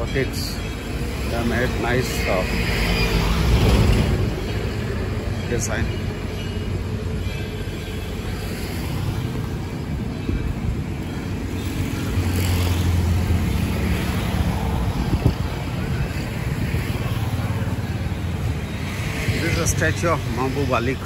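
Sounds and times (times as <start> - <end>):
road traffic running past: 0.0 - 21.0.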